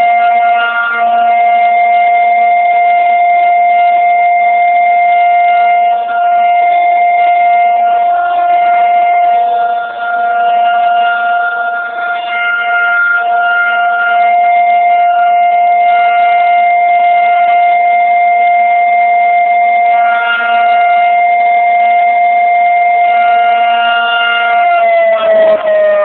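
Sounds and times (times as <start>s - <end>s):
outdoor warning siren steady tone: 0.0s - 26.0s.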